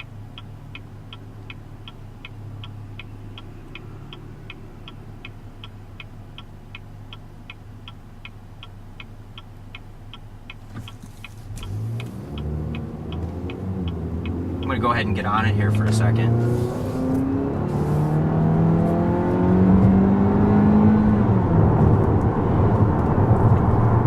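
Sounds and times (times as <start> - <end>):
turn signal clicking: 0.0 - 20.5
car engine humming: 0.0 - 24.0.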